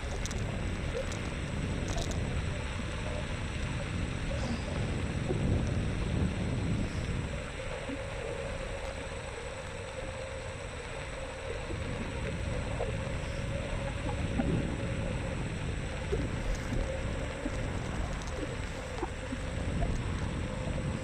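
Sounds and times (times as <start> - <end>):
wind buffeting microphone: 0.0 - 8.7, 11.6 - 21.0
thin steady whine: 0.0 - 21.0.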